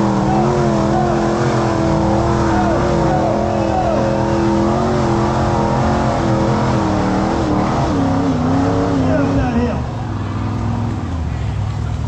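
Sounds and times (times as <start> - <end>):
engine running at high revs: 0.0 - 12.0.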